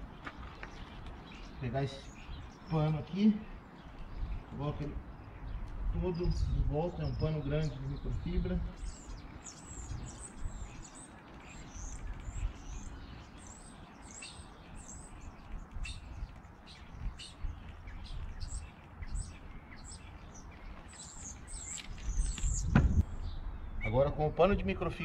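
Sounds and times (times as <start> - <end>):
small birds chirping: 0.0 - 25.0
steady low rumble: 0.8 - 11.0, 11.7 - 25.0.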